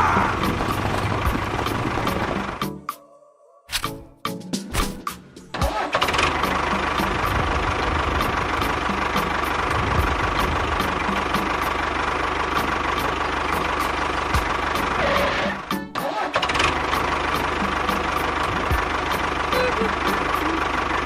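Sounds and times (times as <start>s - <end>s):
small engine running: 0.0s - 2.7s, 5.6s - 21.0s.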